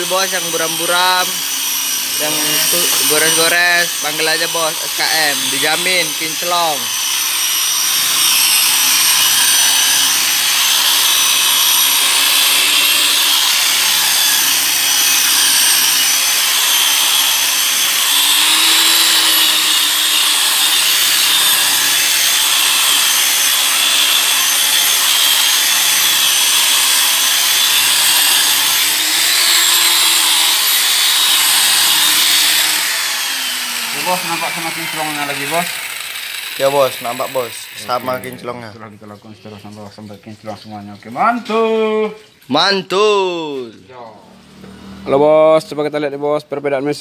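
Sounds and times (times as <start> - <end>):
electric car polisher whining: 0.0 - 37.8.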